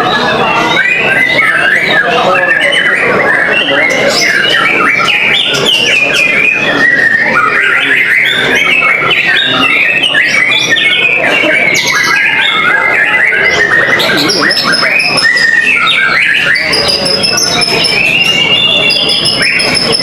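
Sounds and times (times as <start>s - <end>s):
birds singing whistled trills: 0.0s - 20.0s.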